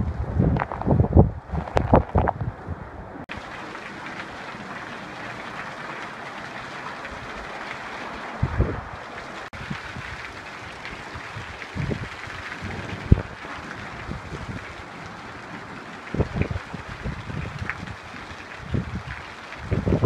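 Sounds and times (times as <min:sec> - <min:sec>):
wind gusts buffeting microphone: 0:00.0 - 0:03.6, 0:07.0 - 0:20.0
heavy rain hiss: 0:03.3 - 0:20.0.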